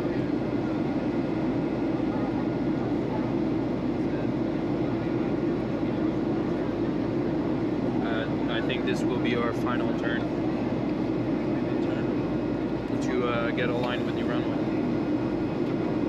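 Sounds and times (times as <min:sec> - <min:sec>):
airflow over fuselage: 0:00.0 - 0:16.0
jet engines roaring: 0:00.0 - 0:16.0.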